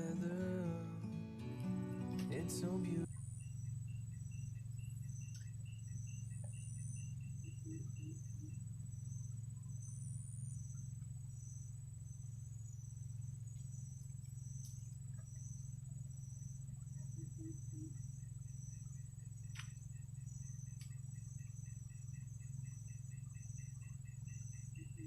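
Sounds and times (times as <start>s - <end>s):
insect high-pitched trill: 0.0s - 25.0s
insects chirping: 0.0s - 25.0s
lower insect chirping: 0.0s - 25.0s.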